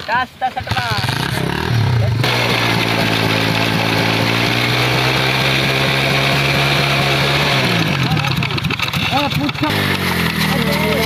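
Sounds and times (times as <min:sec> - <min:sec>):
motorcycle engine at high revs: 0:00.5 - 0:11.0.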